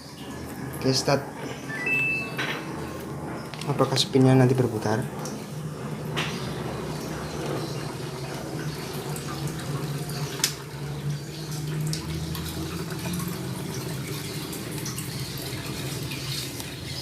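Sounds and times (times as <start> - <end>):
water running in washing machine: 0.0 - 17.0.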